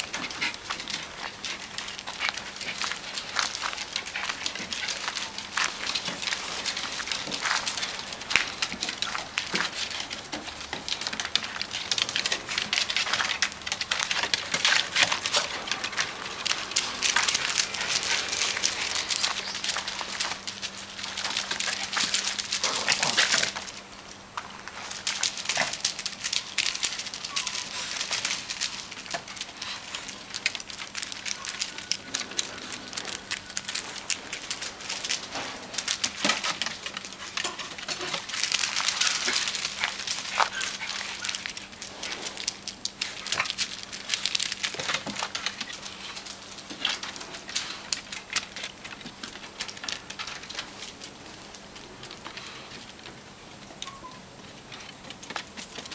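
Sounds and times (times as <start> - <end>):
dog paws scuffling on wood chips: 0.0 - 53.0.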